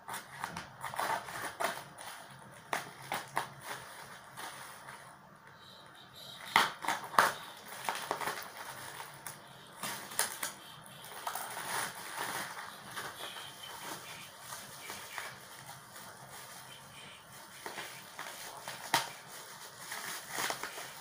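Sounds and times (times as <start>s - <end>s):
rustling of wrapped item: 0.0s - 5.4s, 6.2s - 21.0s
crinkling plastic packaging: 0.0s - 21.0s.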